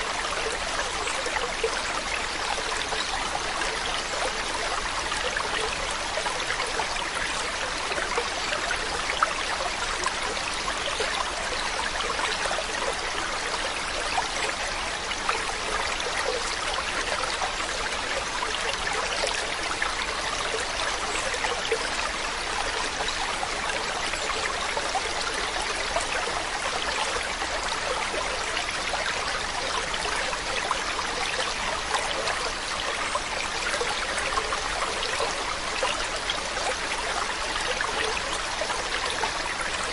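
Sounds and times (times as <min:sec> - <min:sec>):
stream flowing over rocks: 0:00.0 - 0:39.9
water splashing and trickling: 0:00.0 - 0:39.9.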